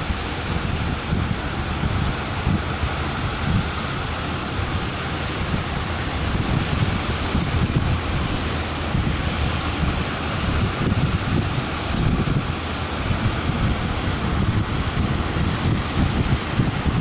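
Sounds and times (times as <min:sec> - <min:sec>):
breaking surf: 0:00.0 - 0:17.0
wind buffeting microphone: 0:00.0 - 0:17.0.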